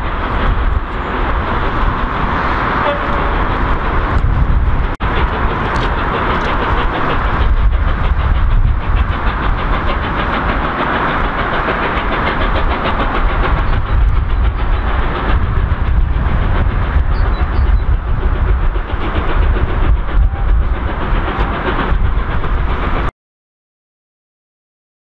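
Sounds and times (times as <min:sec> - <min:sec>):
train rumbling on rails: 0:00.0 - 0:23.1.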